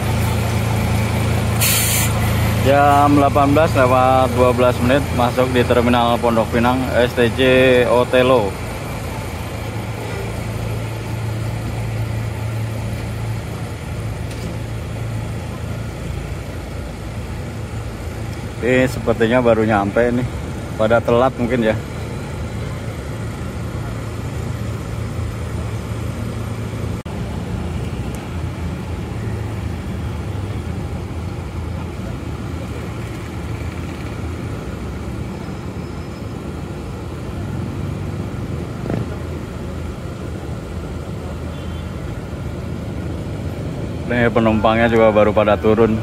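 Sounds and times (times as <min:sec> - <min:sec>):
bus terminal background noise: 0:00.0 - 0:46.0
diesel bus engine idling: 0:00.0 - 0:46.0.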